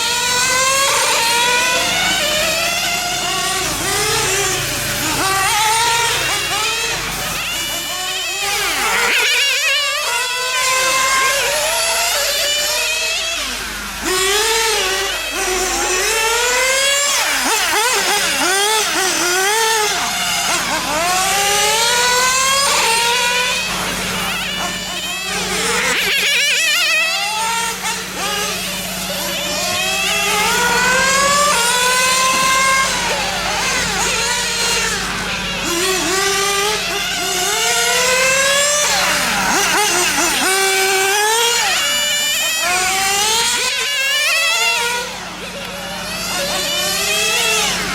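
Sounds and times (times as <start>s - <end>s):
small nitro engines revving: 0.0s - 47.9s.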